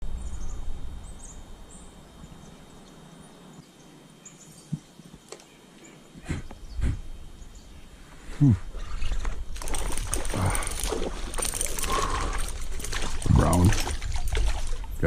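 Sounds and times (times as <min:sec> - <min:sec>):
low wind rumble: 0:00.0 - 0:05.2, 0:06.0 - 0:15.0.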